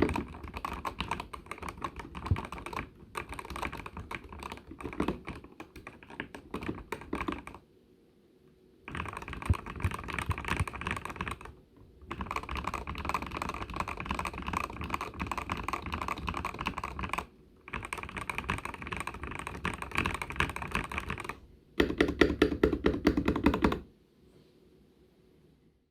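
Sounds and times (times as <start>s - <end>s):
mechanical keyboard typing: 0.0s - 7.6s, 8.9s - 23.9s.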